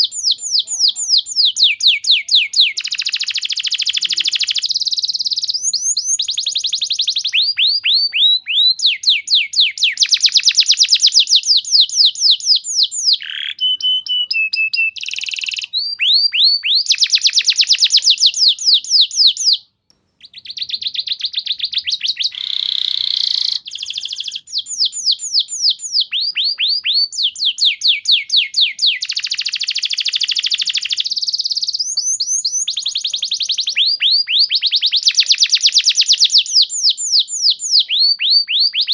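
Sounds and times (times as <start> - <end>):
canary singing trills: 0.0 - 19.6, 20.2 - 38.9.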